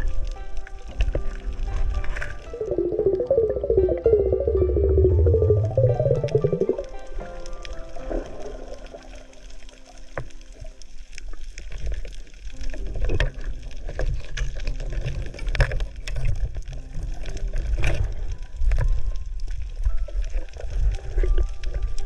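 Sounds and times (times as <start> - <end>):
water sloshing underwater: 0.0 - 22.0.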